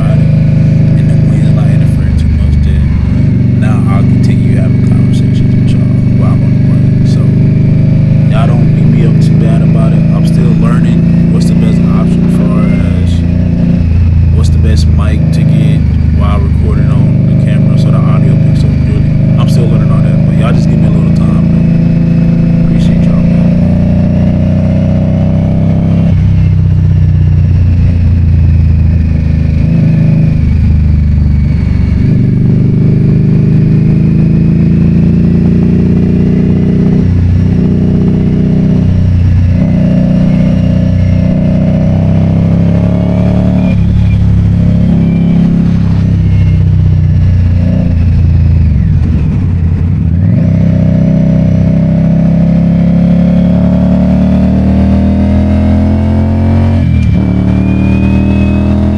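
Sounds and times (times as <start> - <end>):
vehicle engine accelerating: 0.0 - 58.9.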